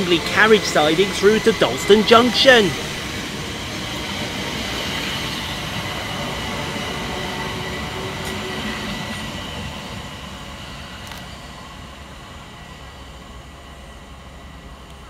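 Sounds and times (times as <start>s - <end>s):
train high whine: 0.0s - 15.0s
train wheel and rail rumble: 0.0s - 15.0s.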